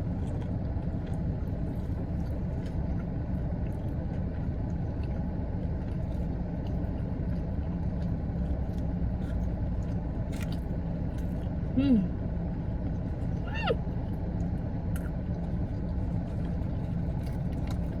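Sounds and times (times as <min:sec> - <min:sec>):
chewing and food handling clicks: 0:00.0 - 0:11.7, 0:12.4 - 0:18.0
car engine rumbling: 0:00.0 - 0:18.0.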